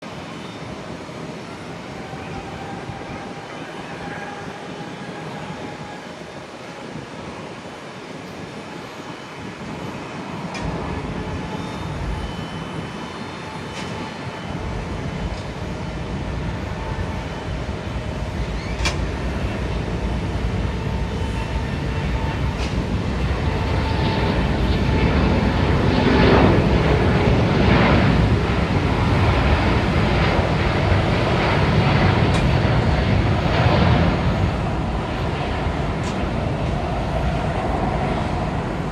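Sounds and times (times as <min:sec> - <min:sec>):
jet engine rumble at takeoff: 0:00.0 - 0:38.9.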